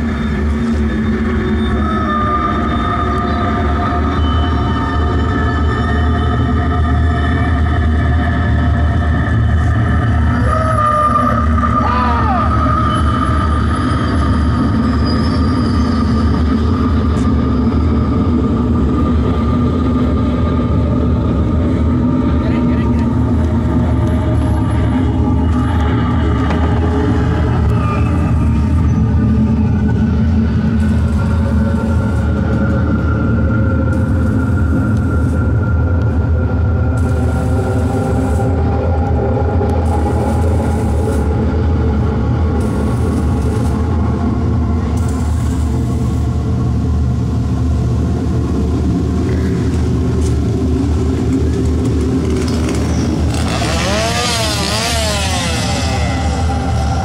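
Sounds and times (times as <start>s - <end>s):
engine rumbling: 0.0s - 57.0s.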